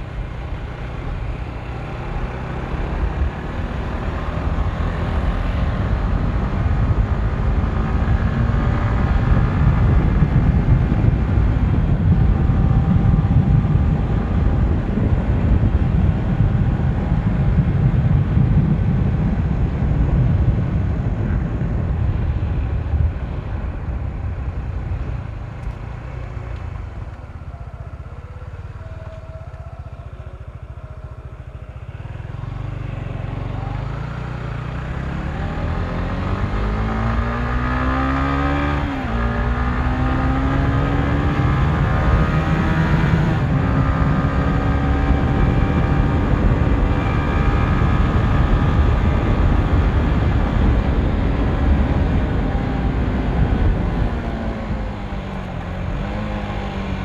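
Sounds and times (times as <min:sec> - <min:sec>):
motorcycle engine accelerating: 0:00.0 - 0:57.0
wind on microphone: 0:00.0 - 0:57.0.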